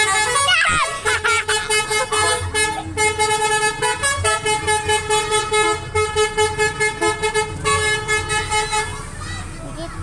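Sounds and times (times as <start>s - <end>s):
multi-tone bus horn melody: 0.0s - 9.5s.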